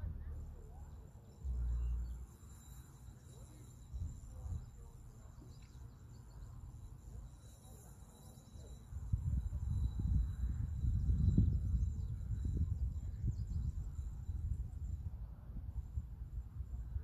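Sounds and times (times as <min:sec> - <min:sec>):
wind rumbling on microphone: 0:00.0 - 0:08.0, 0:08.6 - 0:17.0
high-pitched insect drone: 0:00.3 - 0:17.0.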